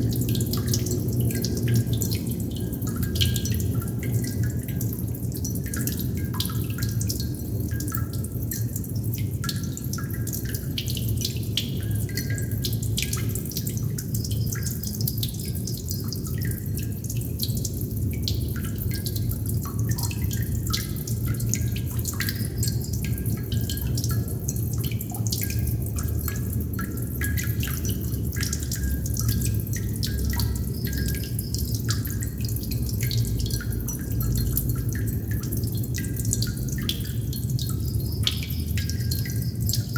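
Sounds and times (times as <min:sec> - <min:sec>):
water droplets dripping: 0:00.0 - 0:39.9.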